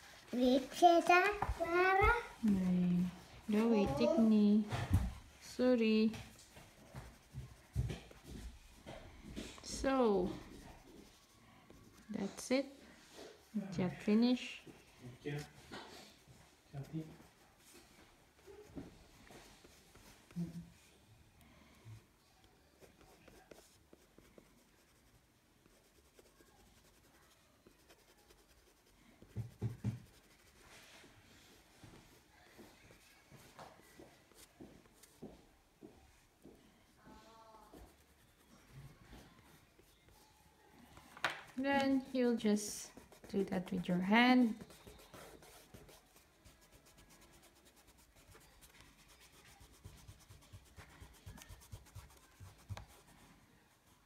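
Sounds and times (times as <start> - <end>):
oil pastel scratching on paper: 0.0 - 20.8, 22.6 - 35.2, 37.6 - 40.6, 41.6 - 54.0.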